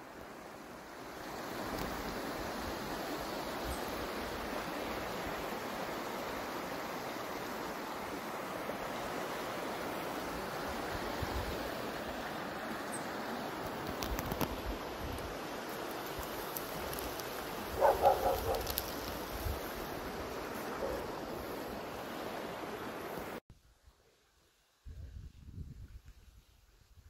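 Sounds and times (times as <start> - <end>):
stream rushing over stones: 0.0 - 23.4.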